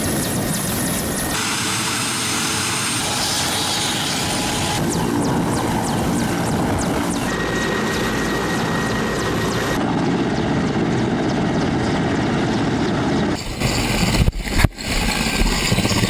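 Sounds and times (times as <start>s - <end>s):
helicopters hovering: 0.0s - 16.0s.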